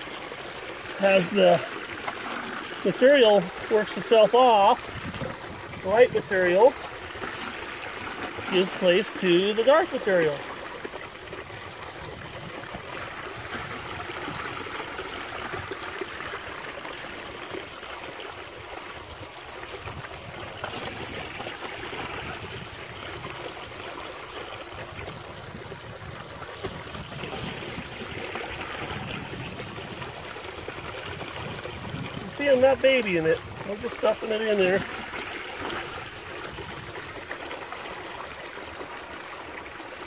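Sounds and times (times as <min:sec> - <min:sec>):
water running down sluice box: 0:00.0 - 0:40.0.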